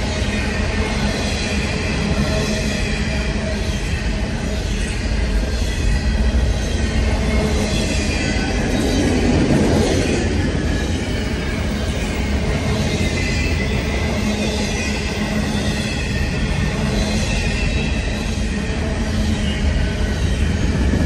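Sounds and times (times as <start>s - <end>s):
faint high wheel squeal: 0.0s - 21.0s
freight train wheels rumbling: 0.0s - 21.0s.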